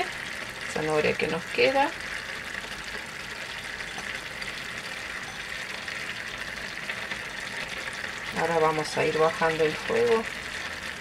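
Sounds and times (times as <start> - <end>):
pot hissing on gas burner: 0.0 - 11.0.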